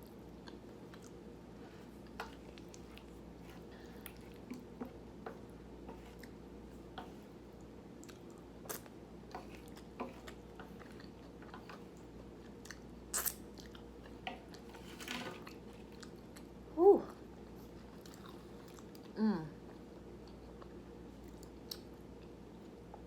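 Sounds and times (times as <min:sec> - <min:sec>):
person chewing food: 0:00.2 - 0:14.8, 0:15.6 - 0:16.6, 0:17.4 - 0:23.0.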